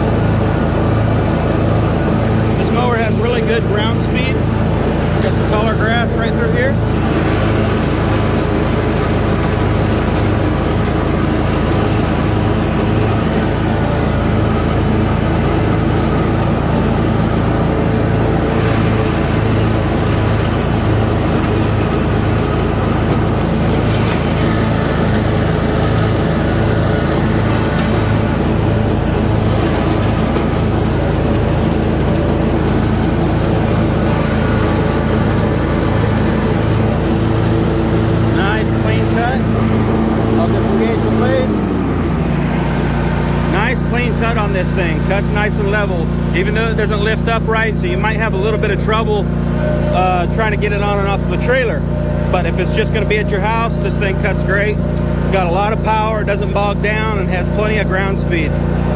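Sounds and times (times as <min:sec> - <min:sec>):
riding mower engine drone: 0:00.0 - 0:58.9.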